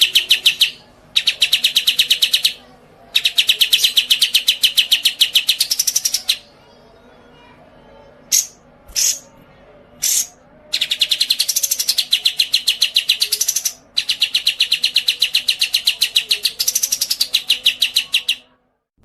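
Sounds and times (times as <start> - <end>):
songbird fast chattering trill: 0.0 - 6.5, 8.3 - 9.3, 10.0 - 18.4.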